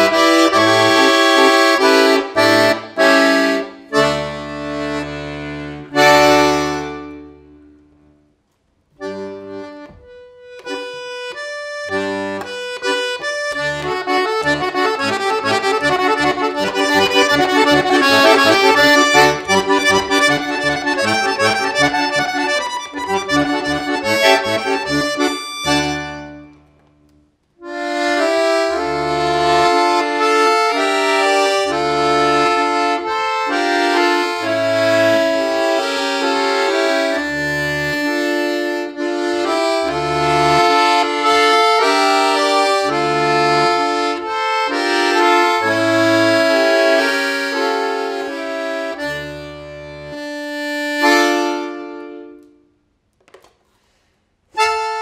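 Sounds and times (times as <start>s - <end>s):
button accordion playing: 0.0s - 7.9s, 9.0s - 26.8s, 27.6s - 52.8s, 54.5s - 55.0s.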